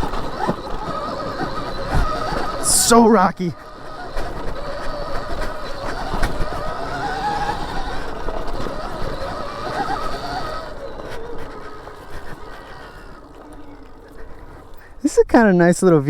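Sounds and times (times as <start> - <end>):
electric motor whining: 0.0 - 16.0
wheels knocking over rocks: 0.0 - 16.0.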